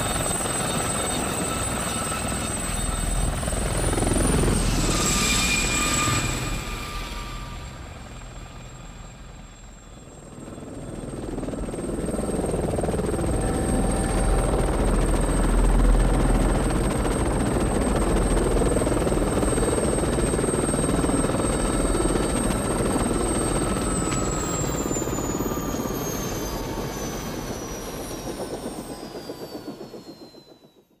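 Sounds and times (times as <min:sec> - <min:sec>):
helicopter rotor and turbine: 0:00.0 - 0:31.0.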